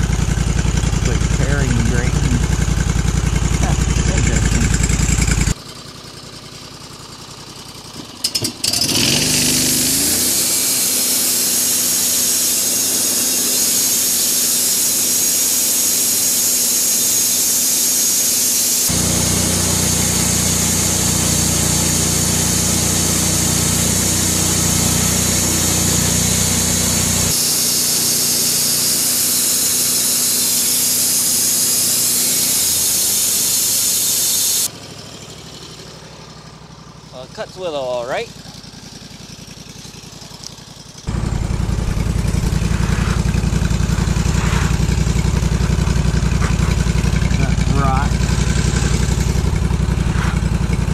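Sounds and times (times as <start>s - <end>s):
bandsaw mill sawing log: 0.0s - 5.6s, 8.2s - 36.4s, 37.0s - 50.9s.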